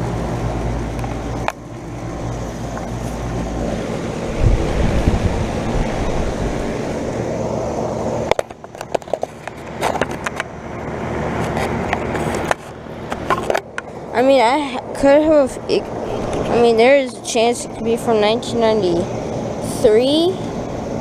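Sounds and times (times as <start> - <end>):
air conditioner fan whoosh: 0.0 - 21.0
compressor hum: 0.0 - 21.0.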